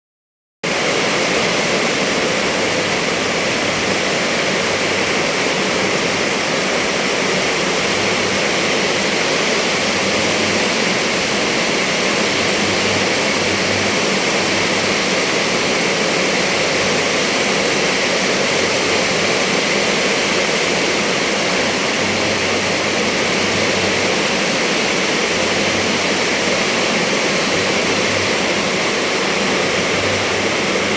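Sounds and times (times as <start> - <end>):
heavy rain hissing: 0.6 - 30.9.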